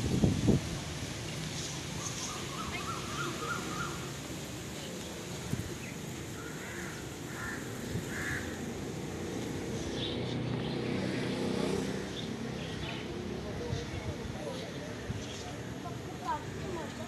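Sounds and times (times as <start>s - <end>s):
small birds chirping: 1.2s - 17.0s.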